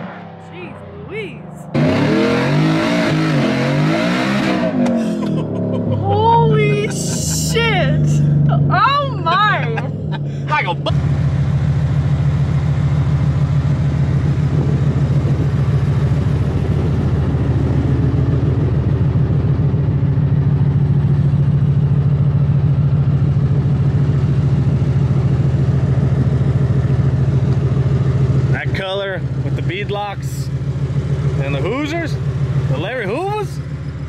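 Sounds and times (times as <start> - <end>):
engine idling: 4.8 - 34.0.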